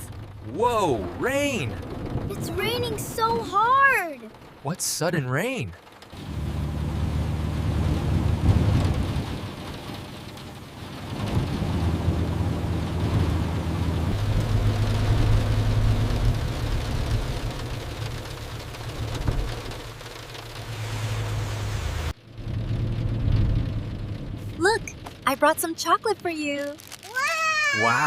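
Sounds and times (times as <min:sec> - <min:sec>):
low rumbling hum: 0:00.0 - 0:04.7, 0:05.8 - 0:27.1
heavy rain pouring: 0:00.0 - 0:28.0.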